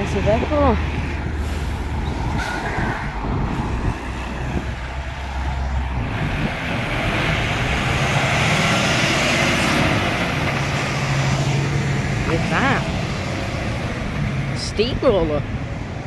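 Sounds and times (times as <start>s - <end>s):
lorry diesel engine running: 0.0s - 16.0s
tyre and road noise: 0.0s - 16.0s.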